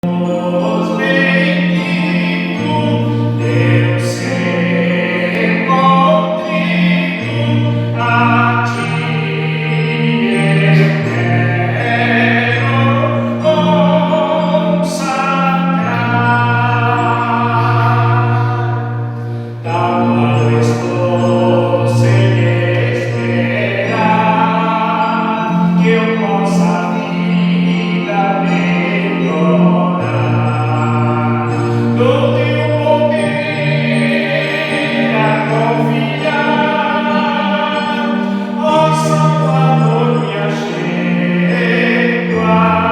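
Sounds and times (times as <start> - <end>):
slow sustained chords: 0.0 - 42.9.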